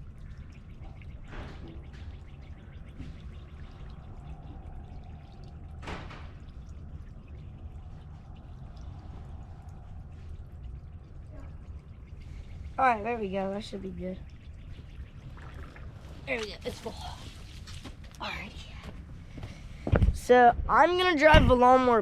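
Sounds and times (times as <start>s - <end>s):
water pouring into container: 0.0s - 19.8s
low rumble: 0.0s - 21.8s.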